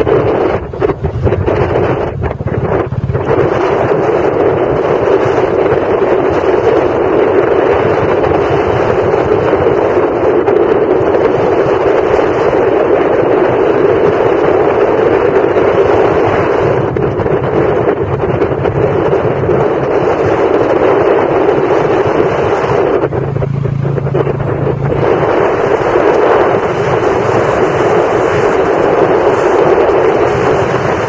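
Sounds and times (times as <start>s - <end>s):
wind rushing on microphone: 0.0s - 31.0s.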